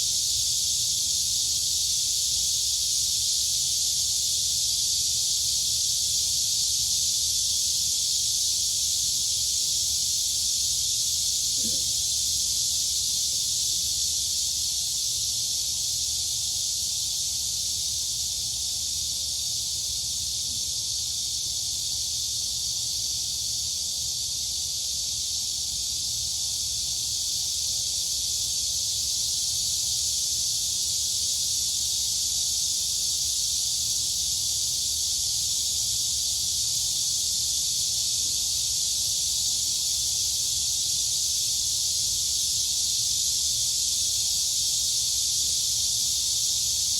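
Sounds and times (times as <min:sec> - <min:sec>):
crickets and cicadas buzzing: 0:00.0 - 0:46.9.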